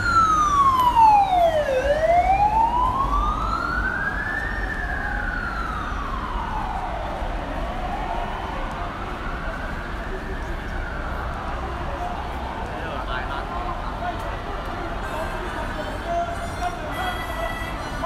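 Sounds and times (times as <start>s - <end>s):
emergency vehicle siren wailing: 0.0s - 18.0s.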